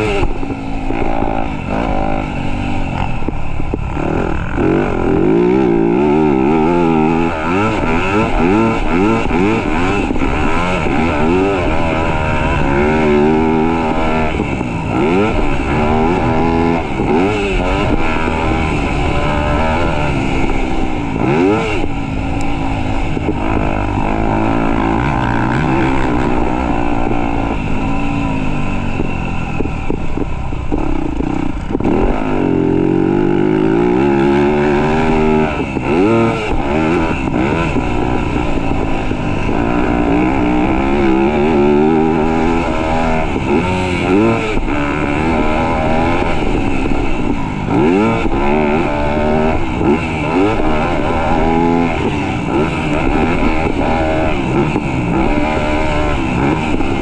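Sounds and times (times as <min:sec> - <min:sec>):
motorbike engine revving hard: 0:00.0 - 0:57.0.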